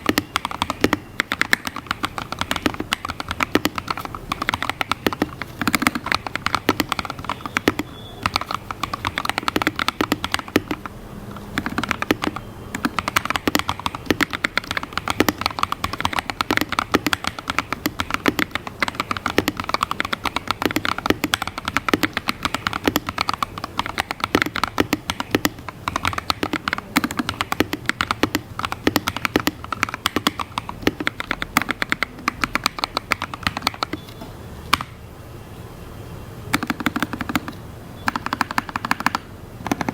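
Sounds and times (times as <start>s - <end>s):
mechanical keyboard typing: 0.0s - 35.0s, 36.5s - 39.9s.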